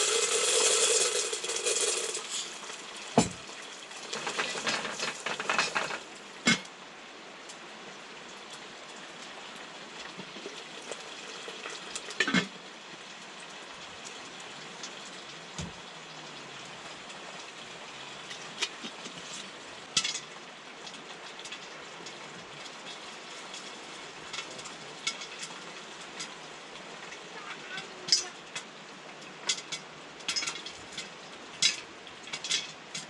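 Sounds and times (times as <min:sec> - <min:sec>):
popcorn crackling over a fire: 0:00.0 - 0:33.0.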